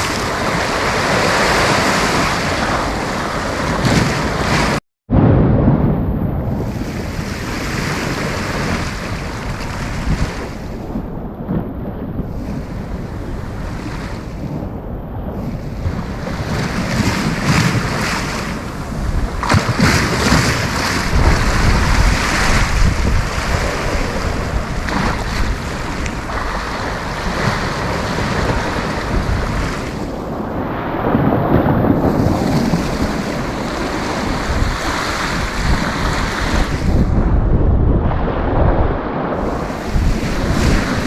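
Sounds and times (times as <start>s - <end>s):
sea surf breaking on beach: 0.0s - 5.4s, 6.4s - 41.0s
wind buffeting microphone: 0.0s - 41.0s.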